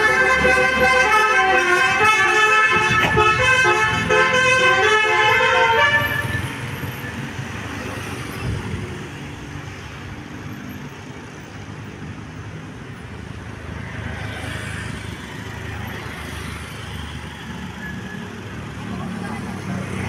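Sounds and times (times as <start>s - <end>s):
tyre and traffic noise: 0.0s - 20.0s.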